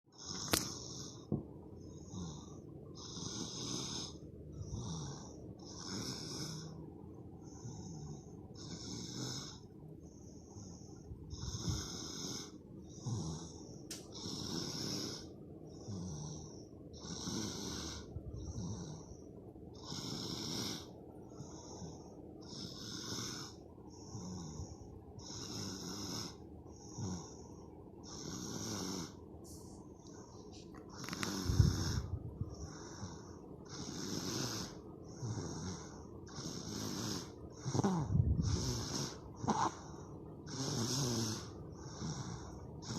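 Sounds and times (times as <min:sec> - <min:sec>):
baby snoring: 0:02.0 - 0:06.8, 0:07.6 - 0:09.6, 0:10.7 - 0:19.2, 0:19.8 - 0:27.4, 0:28.0 - 0:29.2, 0:30.9 - 0:42.9.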